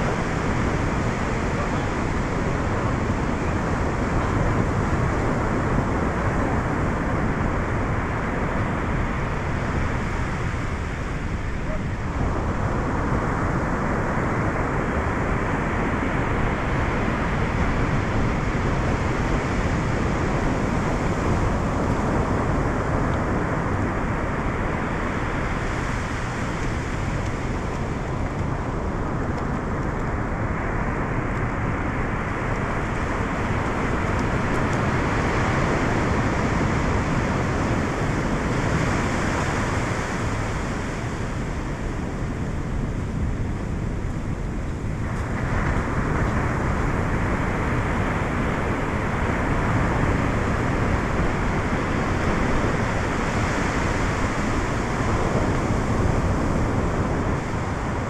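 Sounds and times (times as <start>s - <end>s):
surf washing up a beach: 0.0s - 58.0s
wind rumbling on microphone: 0.0s - 58.0s.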